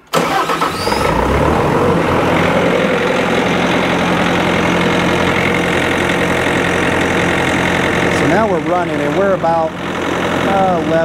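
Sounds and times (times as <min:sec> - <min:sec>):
diesel engine starting and idling: 0:00.0 - 0:11.0.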